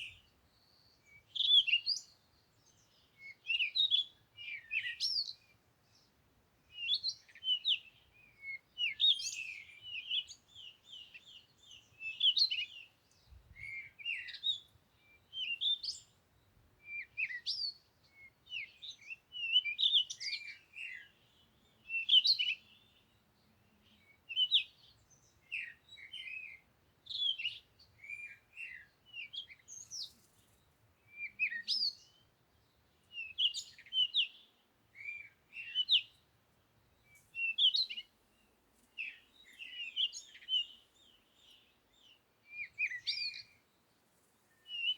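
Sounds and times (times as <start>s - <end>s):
songbirds chirping and singing: 0.0s - 43.8s.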